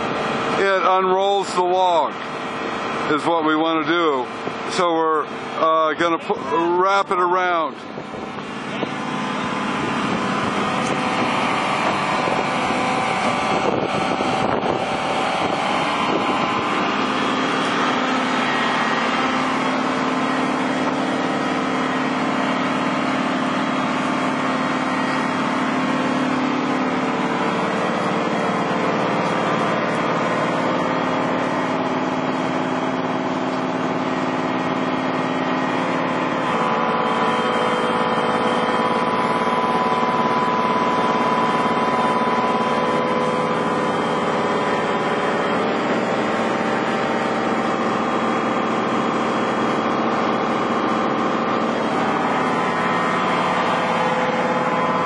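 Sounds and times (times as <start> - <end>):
engine droning steadily: 0.0 - 55.0.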